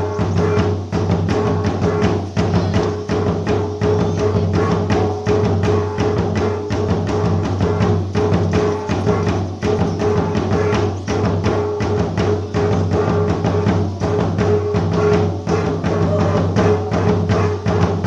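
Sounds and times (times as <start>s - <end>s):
drums and wooden percussion: 0.0s - 18.0s.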